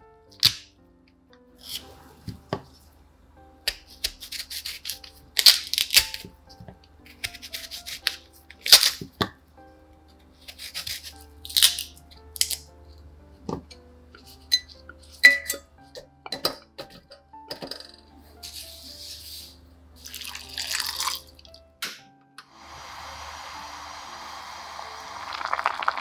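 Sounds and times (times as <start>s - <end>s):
soft instrumental music: 0.0s - 26.0s.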